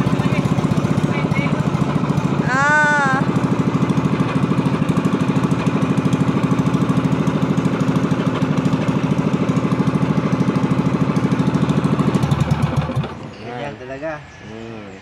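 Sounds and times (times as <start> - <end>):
small boat engine running: 0.0 - 14.9.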